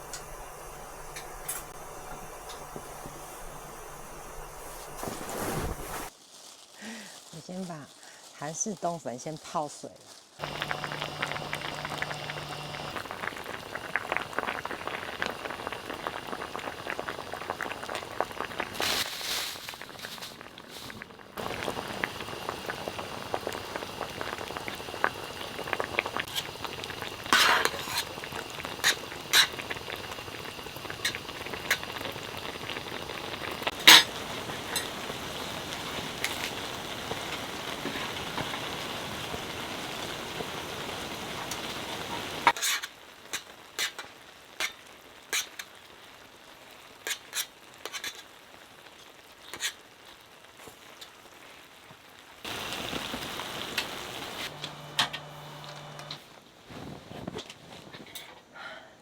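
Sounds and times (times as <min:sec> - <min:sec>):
food sizzling in a pan: 0:00.0 - 0:56.6.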